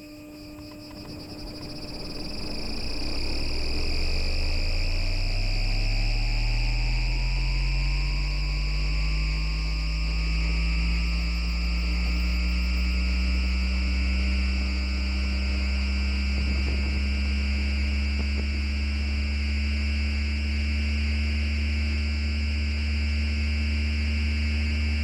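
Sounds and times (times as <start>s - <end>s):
low motor hum: 0.0s - 25.0s
tram inverter whine rising: 0.0s - 25.0s.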